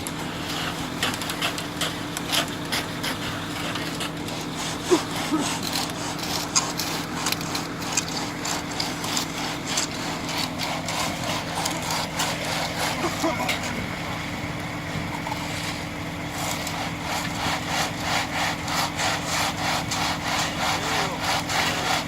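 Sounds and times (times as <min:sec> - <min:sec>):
engine hum: 0:00.0 - 0:22.0
short scraping strokes: 0:00.4 - 0:14.2, 0:15.1 - 0:22.0.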